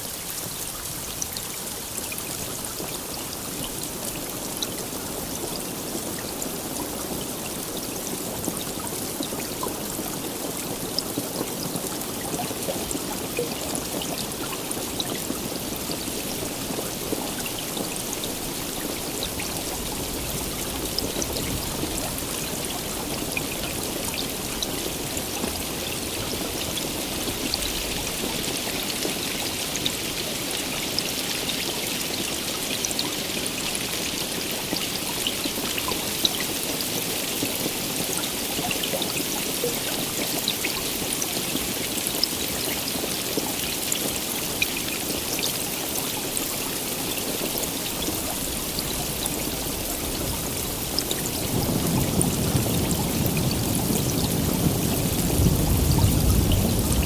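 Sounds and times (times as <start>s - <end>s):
heavy rainfall: 0.0s - 57.0s.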